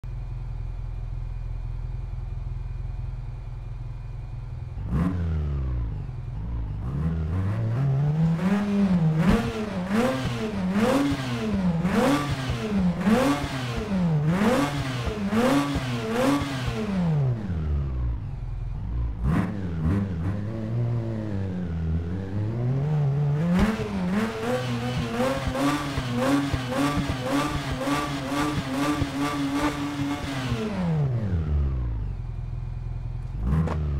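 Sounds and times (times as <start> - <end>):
rotary engine idling and revving: 0.0 - 33.9.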